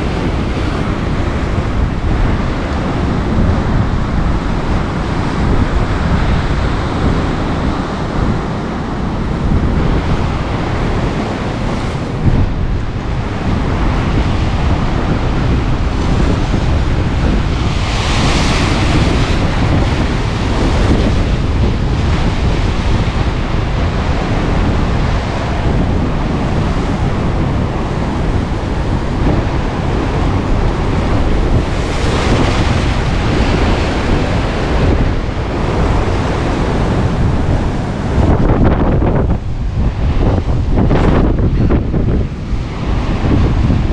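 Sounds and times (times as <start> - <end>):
surf breaking on rocky shore: 0.0 - 43.9
wind buffeting microphone: 0.0 - 43.9.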